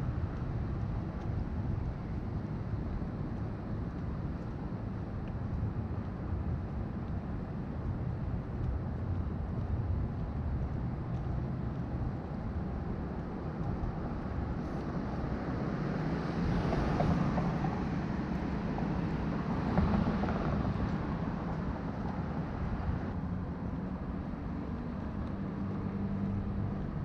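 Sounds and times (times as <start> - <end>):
hum of traffic engines: 0.0 - 27.0
vehicles passing: 0.0 - 27.0.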